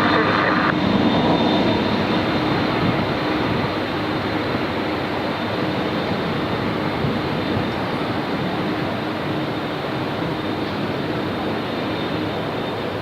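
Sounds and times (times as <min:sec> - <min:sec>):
jet engine rushing: 0:00.0 - 0:13.0.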